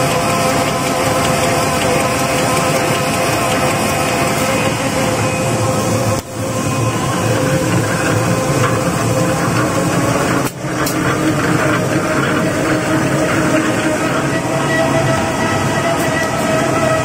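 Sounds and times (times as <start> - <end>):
paper folding machine running: 0.0 - 17.0
steady hum: 0.0 - 17.0.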